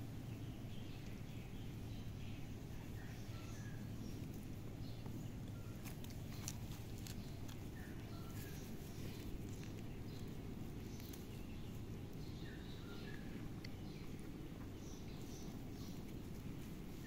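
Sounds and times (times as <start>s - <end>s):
low ambient rumble: 0.0s - 17.0s.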